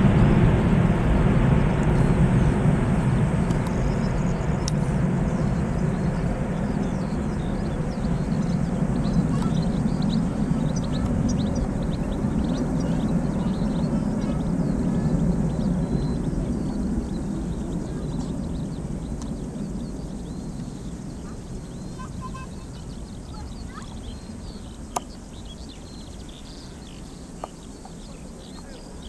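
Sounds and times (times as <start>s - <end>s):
jet engines rumbling: 0.0s - 29.0s
small birds chirping: 1.0s - 29.0s.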